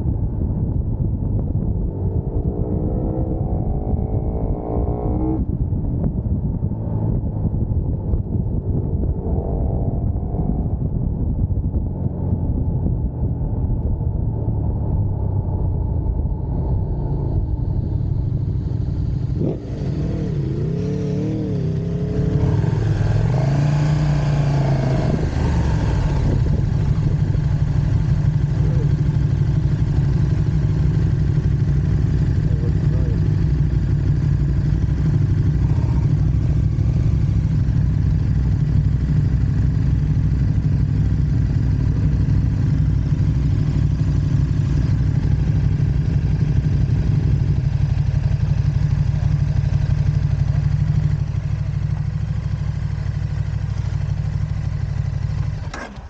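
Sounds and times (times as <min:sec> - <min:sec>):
heavy wind rumble: 0:00.0 - 0:55.6
motorcycle engine at speed: 0:00.0 - 0:56.0.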